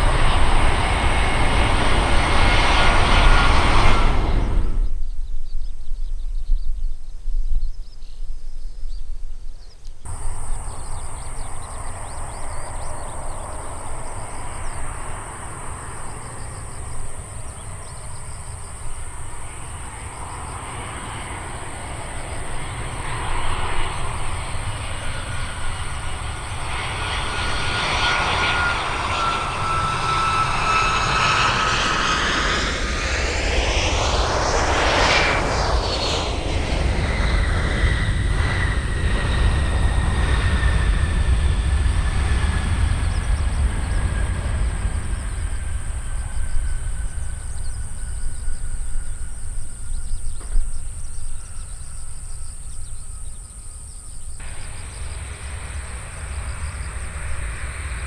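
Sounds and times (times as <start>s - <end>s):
jet engine rumble: 0.0s - 58.0s
engine whine sliding down: 10.1s - 58.0s.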